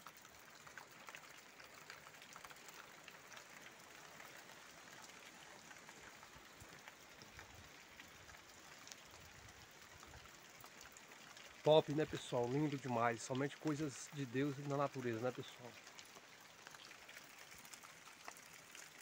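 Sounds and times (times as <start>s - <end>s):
water dripping and trickling: 0.0s - 19.0s.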